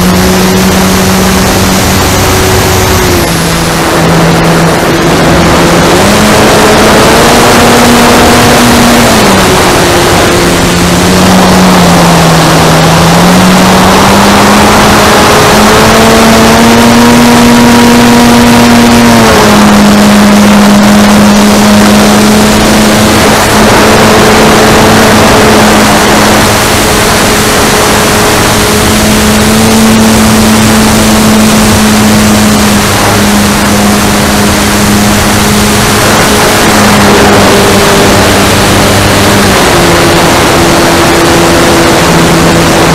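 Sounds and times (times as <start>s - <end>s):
heavy wind noise: 0.0s - 42.9s
model plane motor and propeller: 0.0s - 42.9s.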